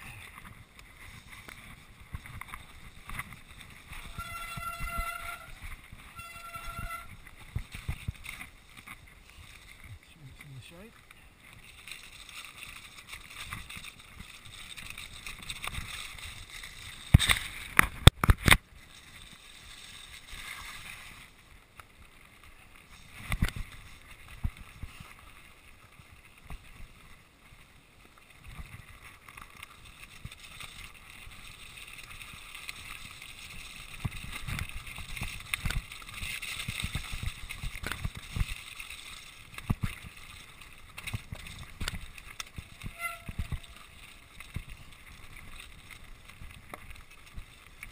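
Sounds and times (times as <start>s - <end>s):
bike rattling: 0.0s - 47.9s
tyres crunching over stones: 0.0s - 47.9s.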